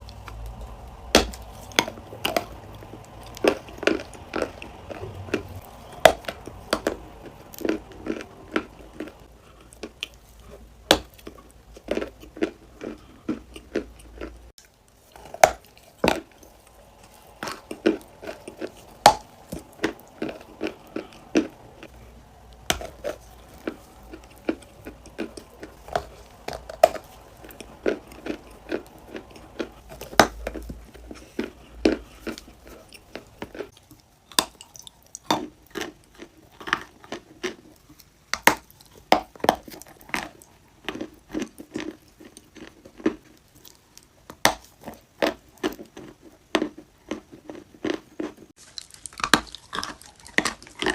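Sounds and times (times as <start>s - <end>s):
person chewing crunchy clay: 0.0s - 50.9s.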